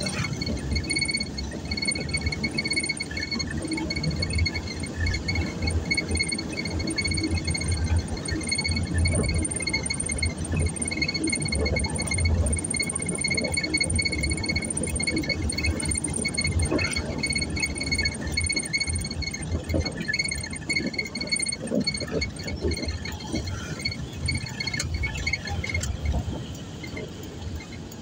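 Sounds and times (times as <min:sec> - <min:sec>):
high-pitched pulsing chirp: 0:00.0 - 0:25.8
car engine and road rumble: 0:00.0 - 0:28.0.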